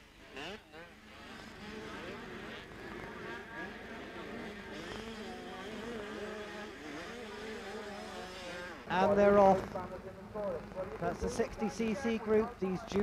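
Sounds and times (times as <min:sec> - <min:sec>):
motocross bikes revving: 0:00.1 - 0:13.0.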